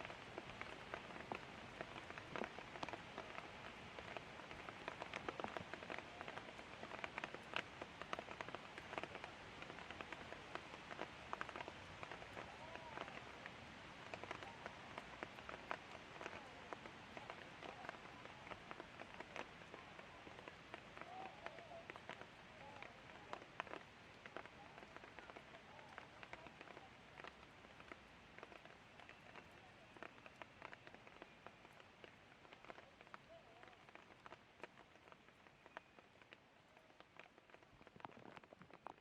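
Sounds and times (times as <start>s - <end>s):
light rain falling: 0.0s - 39.0s
drops ticking on a surface: 0.1s - 39.0s.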